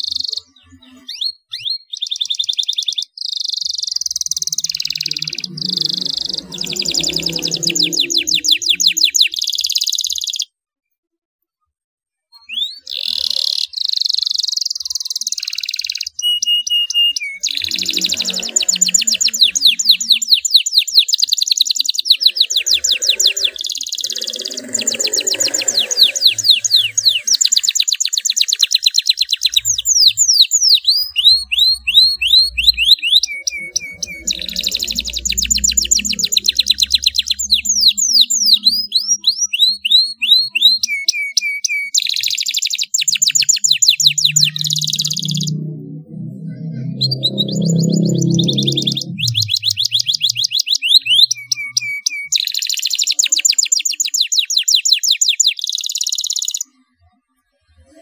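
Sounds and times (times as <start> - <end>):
canary singing trills and chirps: 0.0 - 10.5, 12.3 - 57.2.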